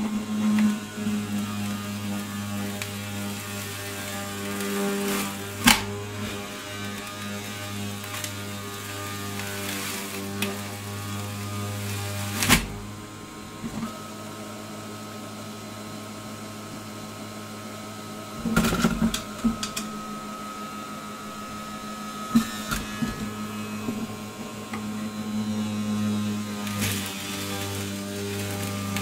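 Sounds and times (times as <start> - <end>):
fruit knocking and grinding in juicer: 0.0 - 14.6, 16.2 - 29.0
juicer motor hum: 0.0 - 29.0.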